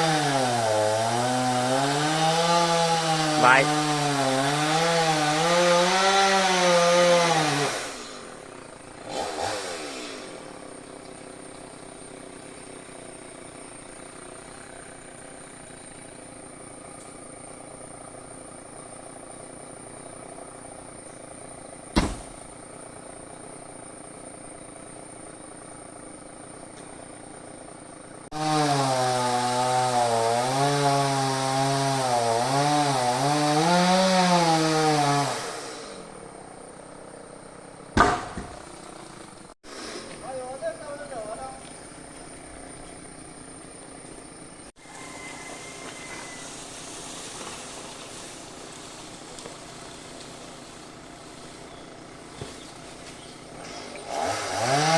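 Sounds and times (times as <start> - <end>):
chainsaw revving: 0.0 - 36.2, 44.7 - 54.9.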